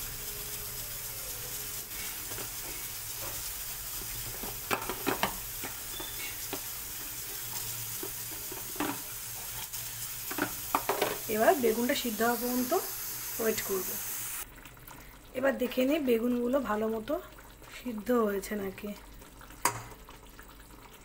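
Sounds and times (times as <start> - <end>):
gravy sizzling in a pan: 0.0 - 21.0.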